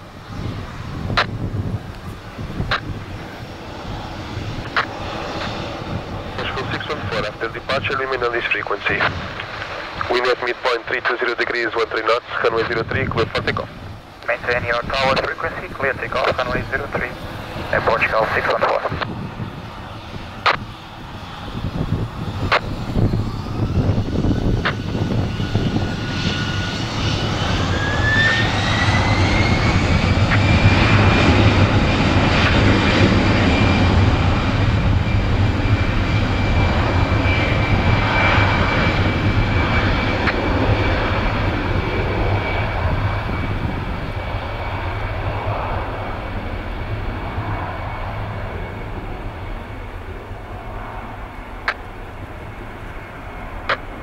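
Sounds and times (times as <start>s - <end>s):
jet airliner taking off: 0.0s - 54.0s.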